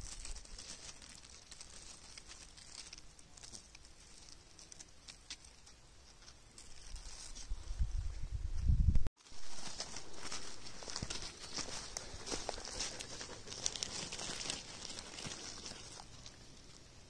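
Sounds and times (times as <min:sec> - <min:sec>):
light ticks and rustles: 0:00.0 - 0:07.5, 0:09.5 - 0:16.9.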